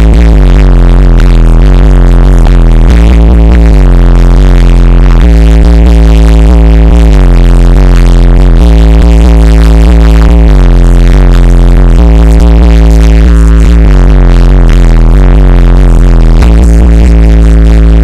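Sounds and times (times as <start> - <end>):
bass-heavy electronic music: 0.0 - 18.0.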